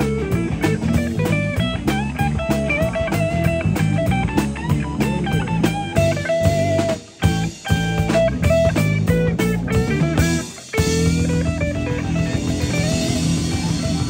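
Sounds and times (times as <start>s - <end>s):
drum kit: 0.0s - 14.0s
electric bass: 0.0s - 14.0s
electric guitar solo with bent notes: 0.0s - 14.0s.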